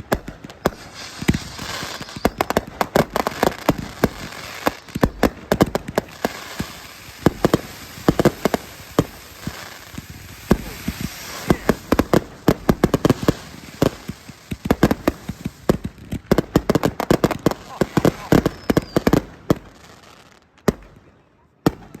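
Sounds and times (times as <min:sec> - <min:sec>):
fireworks crackling hiss: 0:00.0 - 0:20.6
fireworks bangs and cracks: 0:00.0 - 0:22.0.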